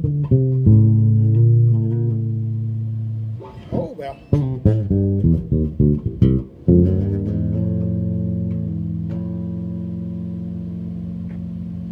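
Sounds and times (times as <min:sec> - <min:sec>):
electric bass notes: 0:00.0 - 0:11.9.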